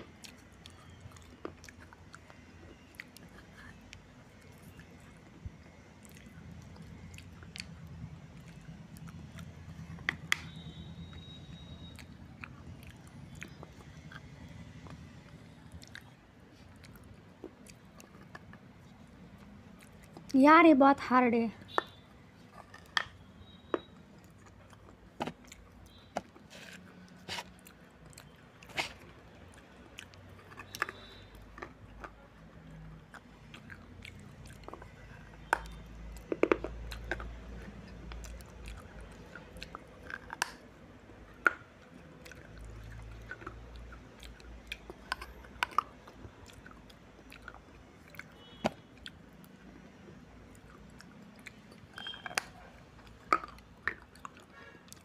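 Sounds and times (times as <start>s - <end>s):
clay crunching between teeth: 0.0s - 20.4s, 21.6s - 55.0s.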